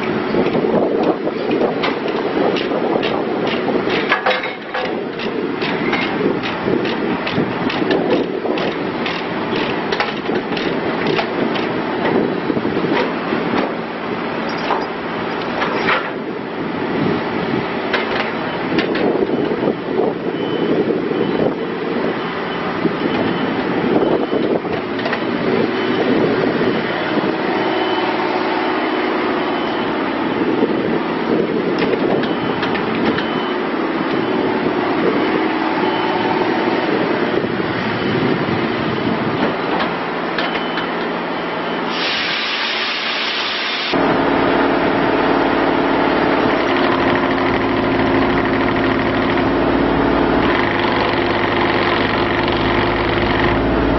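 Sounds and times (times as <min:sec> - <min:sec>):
mini excavator engine running: 0:00.0 - 0:41.9, 0:43.9 - 0:53.9.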